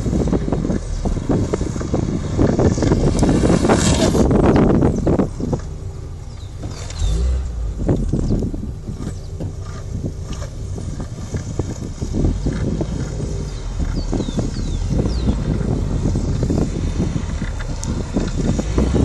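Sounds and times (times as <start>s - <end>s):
wheels rolling on asphalt: 0.0s - 19.0s
wind buffeting microphone: 0.0s - 19.0s.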